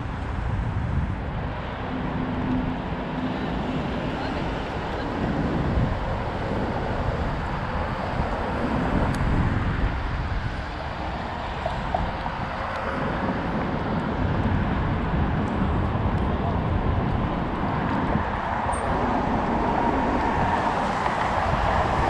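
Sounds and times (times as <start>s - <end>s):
bike rolling noise: 0.0s - 22.0s
wind buffeting microphone: 0.0s - 22.0s.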